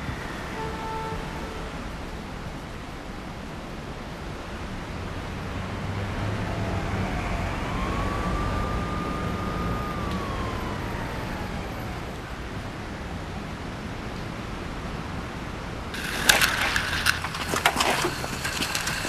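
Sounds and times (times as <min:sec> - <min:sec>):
car road rumble: 0:00.0 - 0:19.0.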